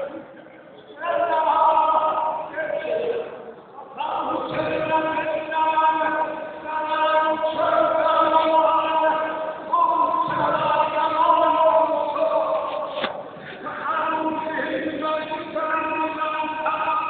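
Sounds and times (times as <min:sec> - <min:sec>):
men chanting a lament: 0:01.0 - 0:17.0.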